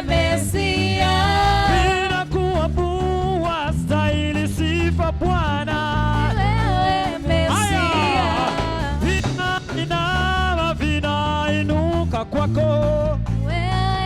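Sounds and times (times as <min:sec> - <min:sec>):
heavy bass line: 0:00.0 - 0:14.0
upbeat gospel band music: 0:00.0 - 0:14.0.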